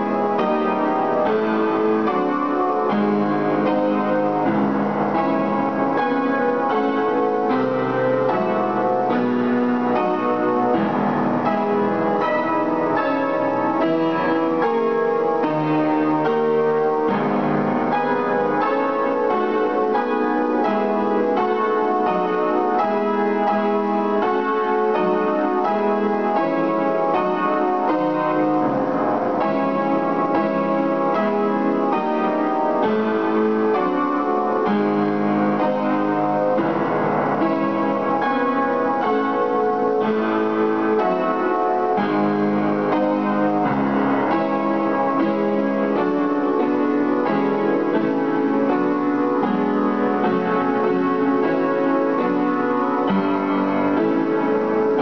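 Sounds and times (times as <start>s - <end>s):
solo piano playing fast notes: 0.0s - 55.0s.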